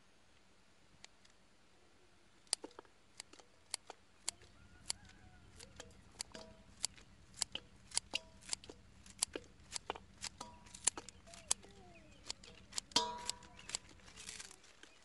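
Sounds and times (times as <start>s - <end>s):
scissors snipping: 2.5s - 15.0s.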